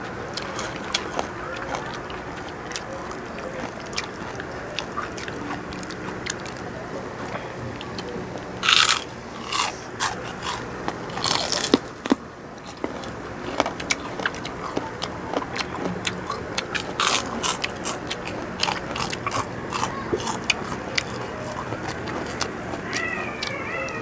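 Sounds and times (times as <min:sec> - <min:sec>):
crunching pork rind: 0:00.0 - 0:24.0.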